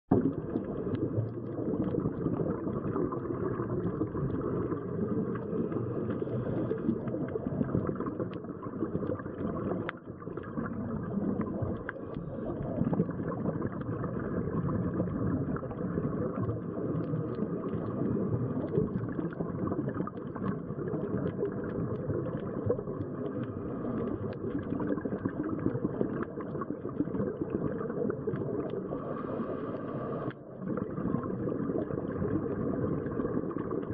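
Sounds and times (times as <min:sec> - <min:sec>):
faint crackles: 0:00.1 - 0:33.9
muffled underwater rumble: 0:00.1 - 0:33.9.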